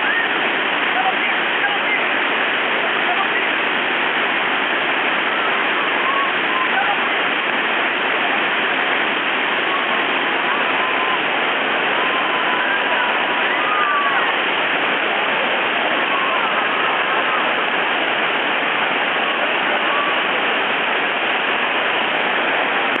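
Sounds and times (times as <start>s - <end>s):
whitewater rushing over waterfall: 0.0s - 23.0s.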